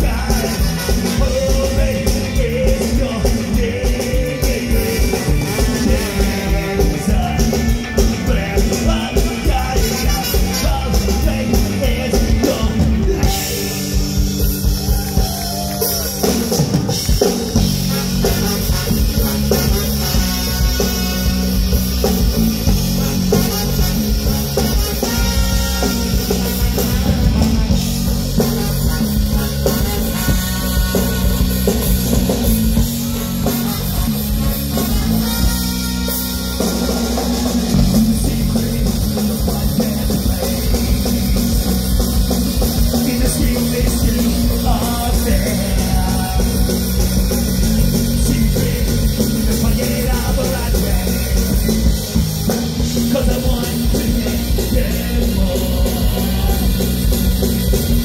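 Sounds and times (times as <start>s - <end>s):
music with drum beat: 0.0s - 58.0s.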